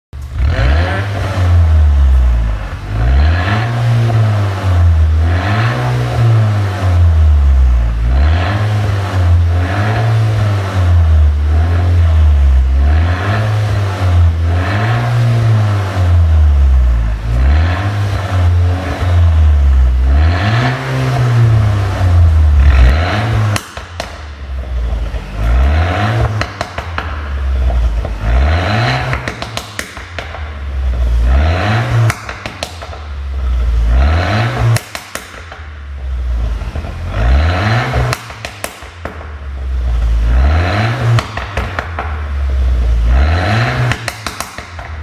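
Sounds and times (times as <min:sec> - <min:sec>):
car engine revving: 0:00.2 - 0:45.0
exhaust pops and crackles: 0:00.2 - 0:45.0.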